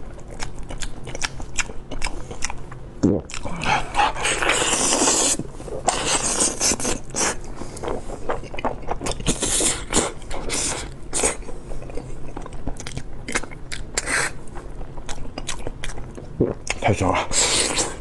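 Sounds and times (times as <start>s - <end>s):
wet chewing and lip-smacking: 0.1s - 16.8s.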